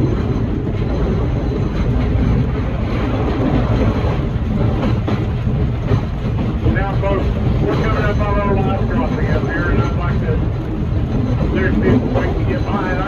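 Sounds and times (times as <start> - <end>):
faint clatter: 0.0 - 13.0
train wheels rumbling on track: 0.0 - 13.0.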